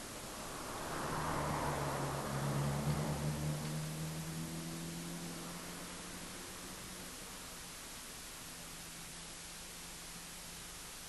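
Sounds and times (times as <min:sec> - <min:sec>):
constant hiss: 0:00.0 - 0:11.0.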